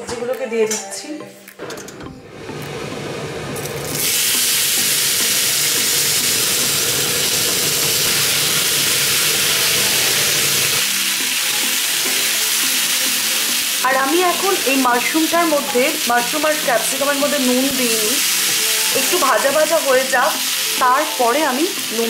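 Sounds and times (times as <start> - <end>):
vegetables sizzling in a pan: 3.9 - 22.0.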